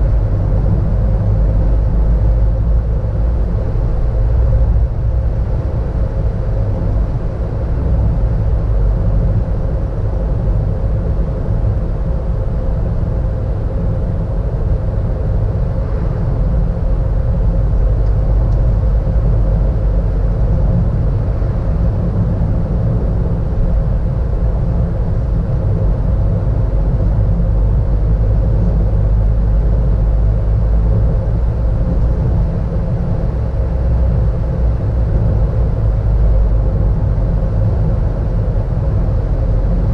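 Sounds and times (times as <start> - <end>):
car road and engine rumble: 0.0 - 39.9
faint constant hum: 0.0 - 39.9.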